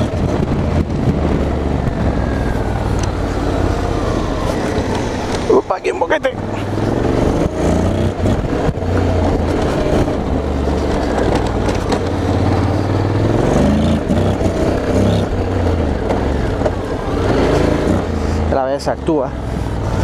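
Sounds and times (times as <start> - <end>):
wind rushing: 0.0 - 18.5
motorcycle engine revving: 0.0 - 20.0.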